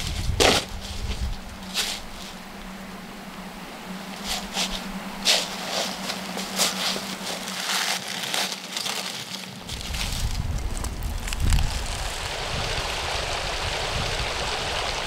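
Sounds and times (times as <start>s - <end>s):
steady low hum: 0.0s - 8.0s, 9.5s - 15.0s
dry leaves crackling underfoot: 0.0s - 13.8s.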